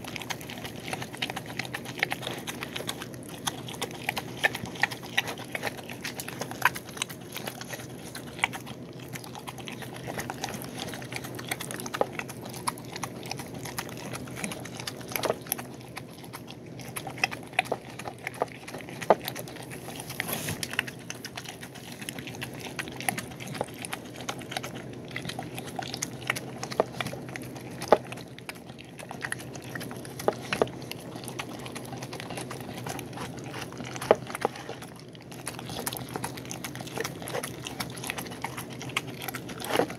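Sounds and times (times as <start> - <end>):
dog chewing food: 0.0 - 39.9.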